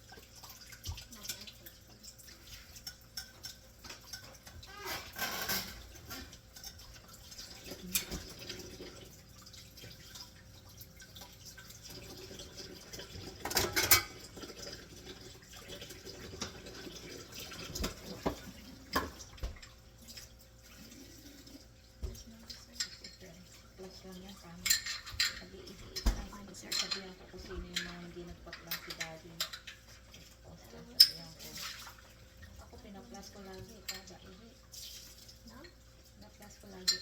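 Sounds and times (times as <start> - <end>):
sink water running and splashing: 0.0 - 37.0.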